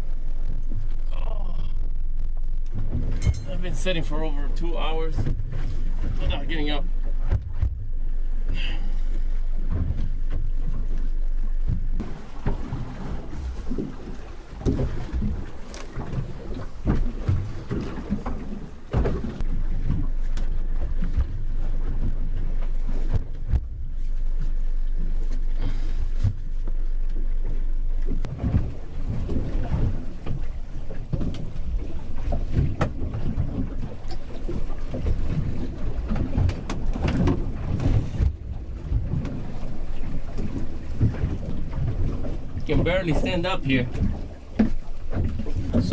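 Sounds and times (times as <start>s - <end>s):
boat engine rumble: 0.0s - 45.9s
waves thumping against hull: 0.0s - 45.9s
wind on microphone: 0.0s - 45.9s.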